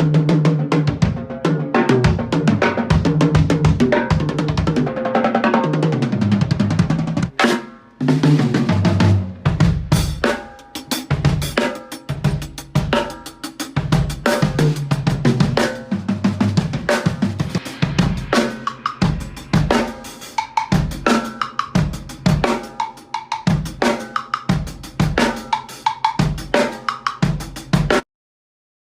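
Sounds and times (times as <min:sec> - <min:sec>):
acoustic drum kit playing: 0:00.0 - 0:28.0.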